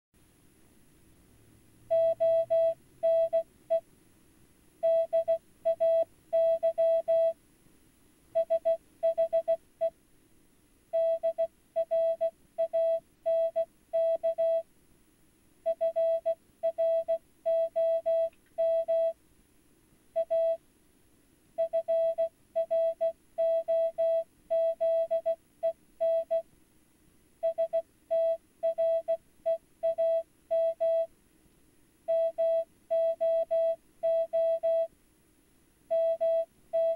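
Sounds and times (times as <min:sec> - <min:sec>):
faint low hum: 0:00.2 - 0:36.9.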